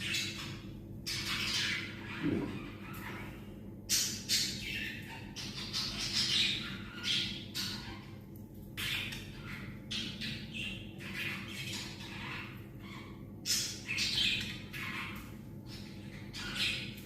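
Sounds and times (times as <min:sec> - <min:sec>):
parrots squawking and chirping: 0:00.0 - 0:17.0.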